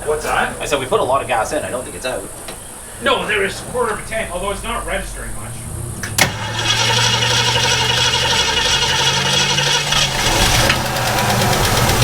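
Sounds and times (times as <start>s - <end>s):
car engine cranking on the starter: 0.0s - 12.0s.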